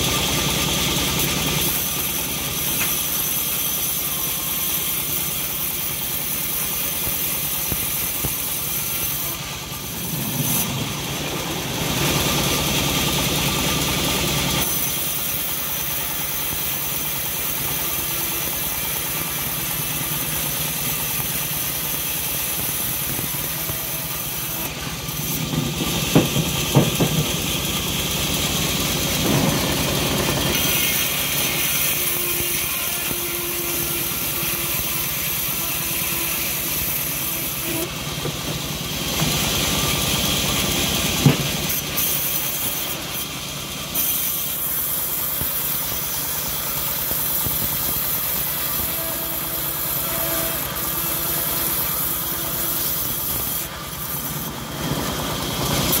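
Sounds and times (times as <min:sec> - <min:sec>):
bandsaw sawmill engine running: 0:00.0 - 0:56.0
saw blade cutting wood: 0:00.0 - 0:56.0.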